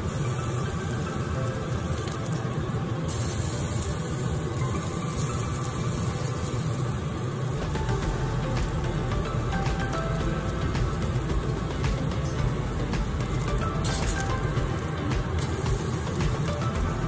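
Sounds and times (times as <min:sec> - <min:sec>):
gas burner rushing: 0:00.0 - 0:17.0.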